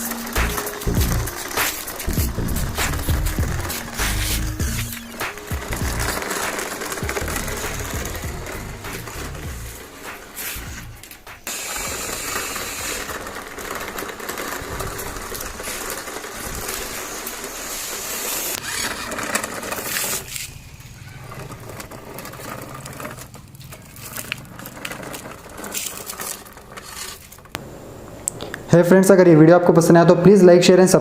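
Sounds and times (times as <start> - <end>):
toy truck motor and gears whirring: 0.0 - 27.6.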